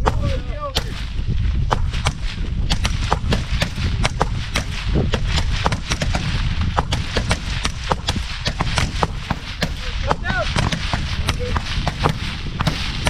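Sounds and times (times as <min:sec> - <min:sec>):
low rumble: 0:00.0 - 0:13.0
rifles firing: 0:00.0 - 0:13.0.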